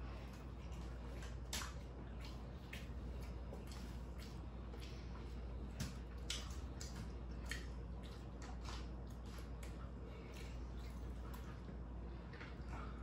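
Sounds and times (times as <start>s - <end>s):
people chewing food: 0.0s - 13.0s
steady low hum: 0.0s - 13.0s.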